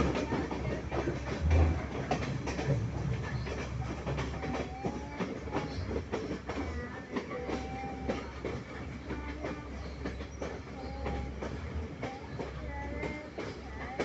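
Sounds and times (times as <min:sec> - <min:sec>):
train low rumble: 0:00.0 - 0:14.0
train wheels clattering: 0:00.0 - 0:14.0.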